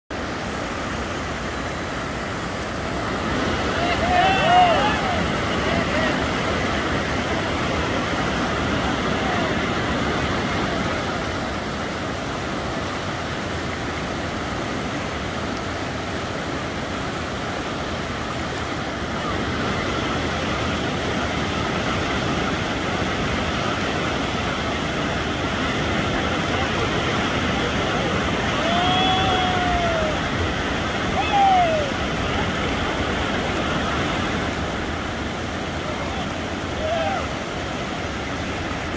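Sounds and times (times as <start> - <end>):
river rapid roaring: 0.1 - 38.9.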